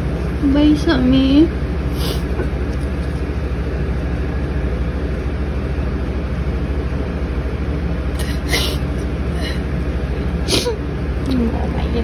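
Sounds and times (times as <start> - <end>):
low droning hum: 0.0 - 12.0.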